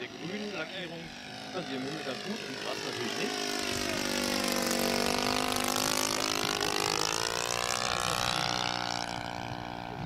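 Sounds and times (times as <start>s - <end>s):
model plane engine passing: 0.0s - 10.0s.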